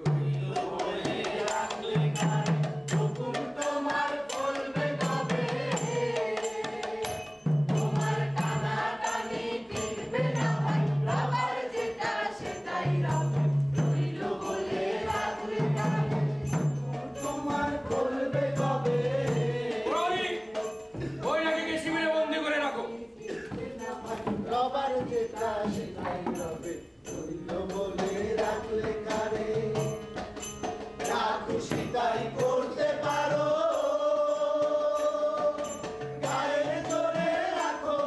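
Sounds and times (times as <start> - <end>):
group chant-like singing: 0.0 - 22.0, 22.7 - 38.0
percussion beat: 0.0 - 38.0.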